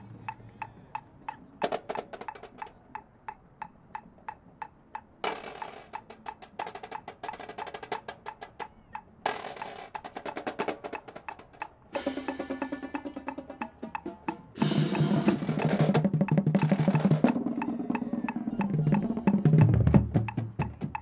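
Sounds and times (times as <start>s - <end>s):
metronome clicking: 0.2s - 21.0s
marching drumline playing: 1.6s - 2.8s, 5.2s - 21.0s.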